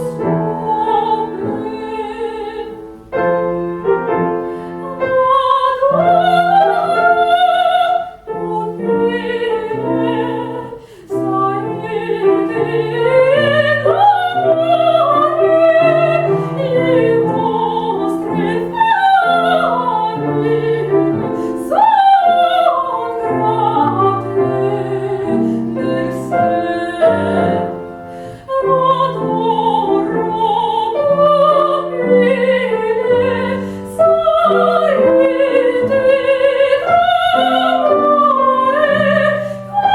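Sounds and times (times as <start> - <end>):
woman singing operatically: 0.0 - 3.0, 4.8 - 39.9
grand piano: 0.0 - 39.9.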